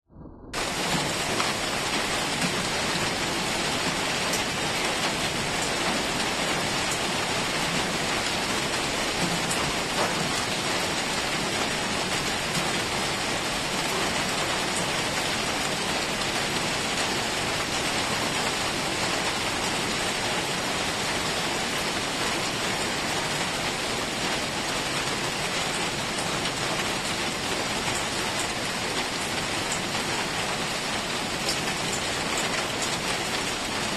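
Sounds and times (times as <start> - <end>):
rain pattering on hard surfaces: 0.6 - 33.9.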